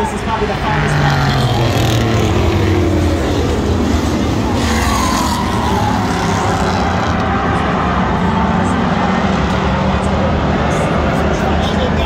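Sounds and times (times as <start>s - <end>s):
racing truck engines passing: 0.0s - 12.0s.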